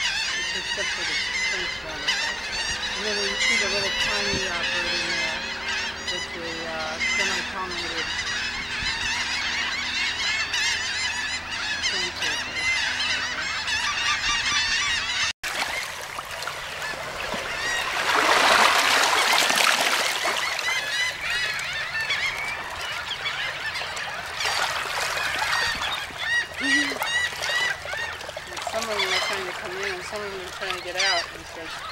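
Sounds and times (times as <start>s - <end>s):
shorebirds calling: 0.0s - 31.9s.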